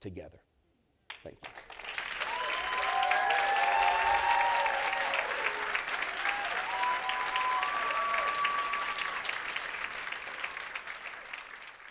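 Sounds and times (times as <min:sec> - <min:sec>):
audience applauding: 0:01.4 - 0:11.9.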